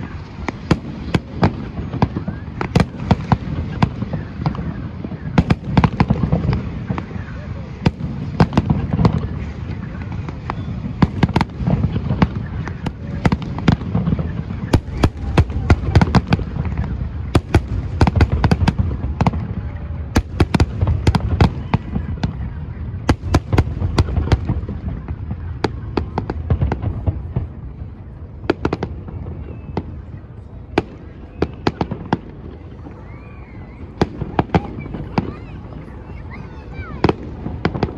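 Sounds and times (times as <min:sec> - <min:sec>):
fireworks bangs: 0:00.0 - 0:37.9.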